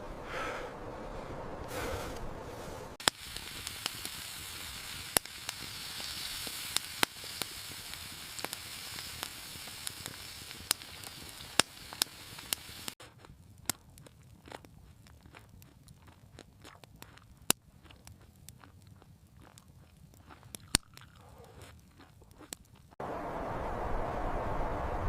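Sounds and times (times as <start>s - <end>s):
fire crackling: 0.0s - 23.1s.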